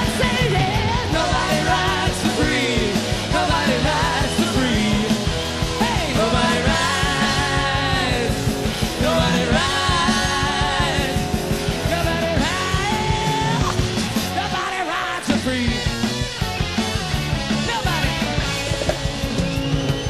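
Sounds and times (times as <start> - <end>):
electric guitars: 0.0 - 20.0.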